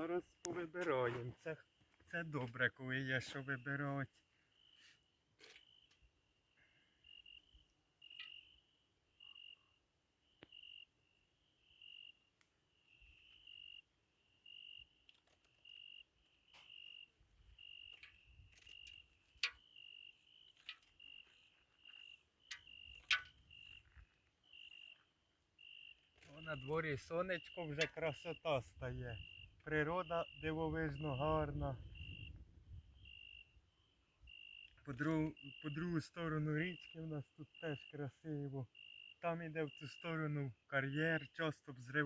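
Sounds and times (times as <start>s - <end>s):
cricket chirping: 0.0s - 42.0s.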